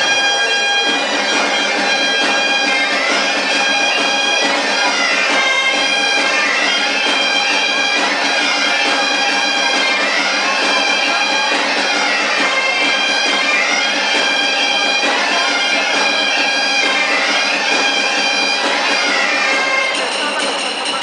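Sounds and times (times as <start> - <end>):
bagpipe dance tune: 0.0 - 21.0.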